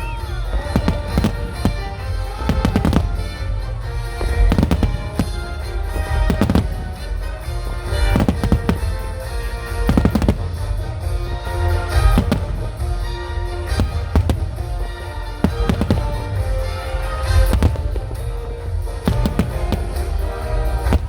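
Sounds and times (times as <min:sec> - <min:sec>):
deep booming rumble: 0:00.0 - 0:21.0
firework shells cracking: 0:00.0 - 0:21.0
music playing: 0:00.0 - 0:21.0.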